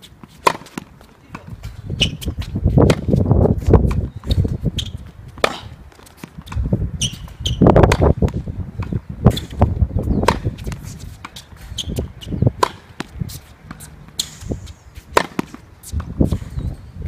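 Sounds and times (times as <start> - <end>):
tennis balls struck with rackets: 0.2 - 16.4.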